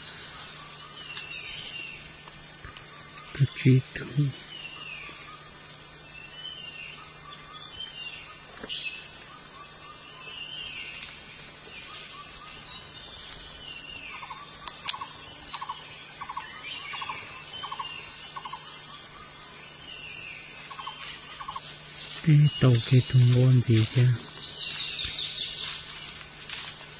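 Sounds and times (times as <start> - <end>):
forest birds calling: 0.0 - 26.9
high-pitched insect drone: 0.0 - 26.9.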